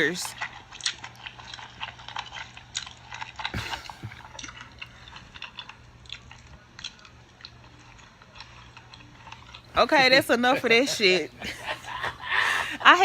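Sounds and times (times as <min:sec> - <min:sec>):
woman chewing loudly: 0:00.0 - 0:13.0.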